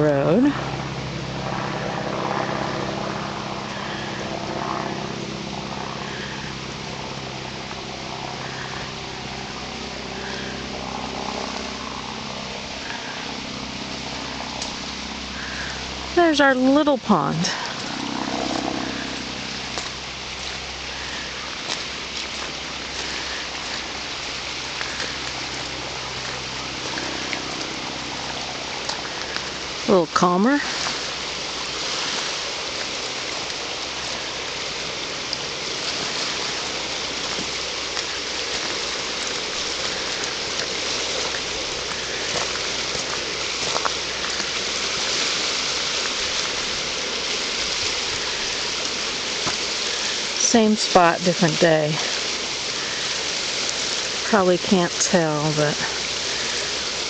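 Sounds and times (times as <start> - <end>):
light patters and drips: 0.0 - 57.0
vehicle engine running: 0.0 - 57.0
water hissing: 0.0 - 57.0.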